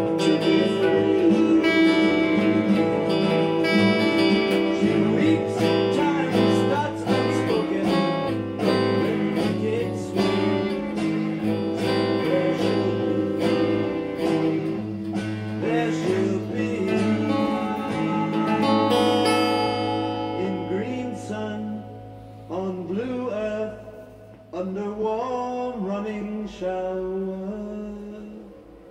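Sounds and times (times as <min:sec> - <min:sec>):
acoustic guitar picking: 0:00.0 - 0:28.9.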